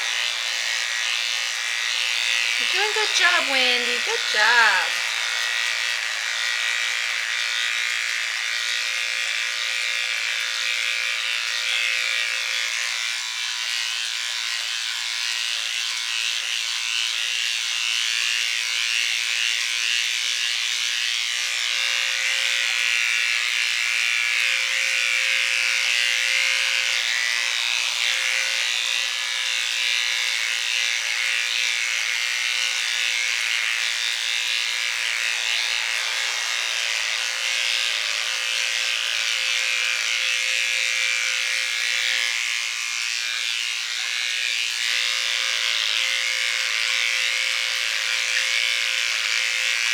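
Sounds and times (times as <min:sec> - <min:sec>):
electric hair clippers buzzing: 0:00.0 - 0:49.9.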